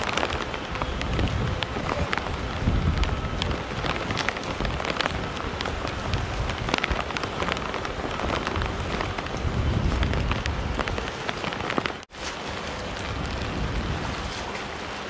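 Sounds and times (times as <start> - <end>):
rain on standing water: 0.0 - 15.0.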